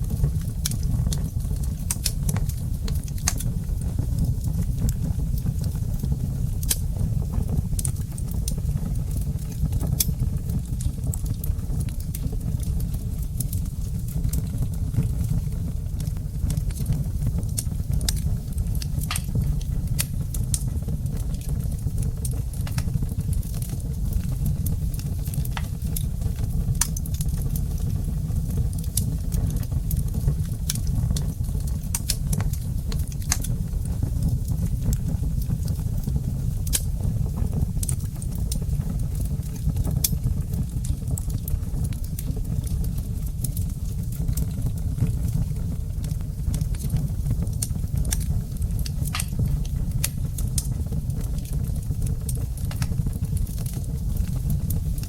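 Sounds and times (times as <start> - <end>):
burning wood crackling: 0.0 - 55.0
flames rumbling: 0.0 - 55.0.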